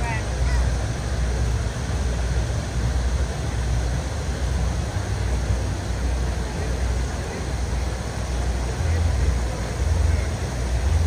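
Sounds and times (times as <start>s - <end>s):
low city rumble: 0.0s - 11.0s
rain hiss: 0.0s - 11.0s.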